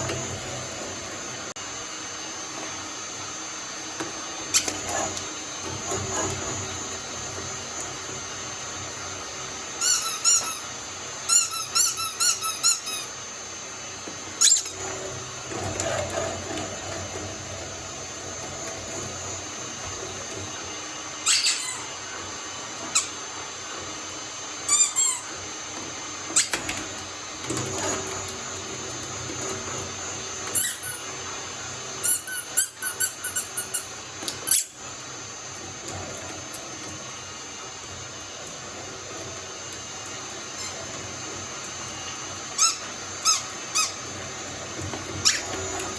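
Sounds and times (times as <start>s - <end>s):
shredder humming: 0.0s - 45.9s.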